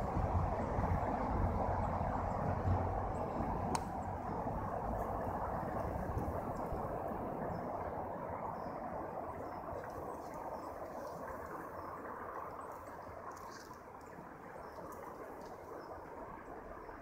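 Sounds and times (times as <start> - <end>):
outdoor background hum: 0.0 - 17.0.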